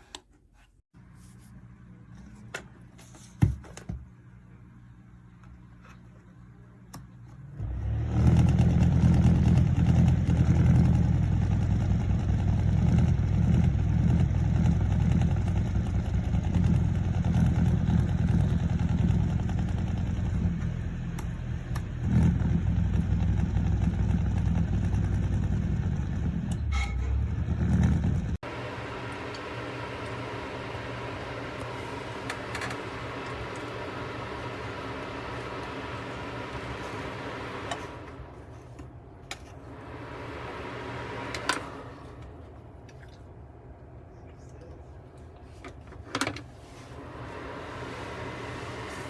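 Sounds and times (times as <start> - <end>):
heater fan air buffeting microphone: 1.0 - 49.0.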